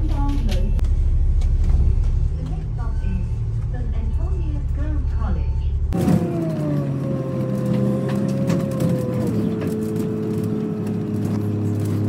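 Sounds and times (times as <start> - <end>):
bus engine rumble: 0.0 - 12.0
drivetrain whine: 0.0 - 12.0.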